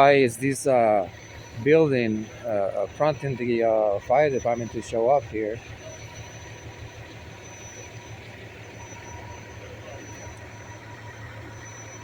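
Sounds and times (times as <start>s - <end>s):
fire truck diesel engine idling: 0.0s - 12.0s.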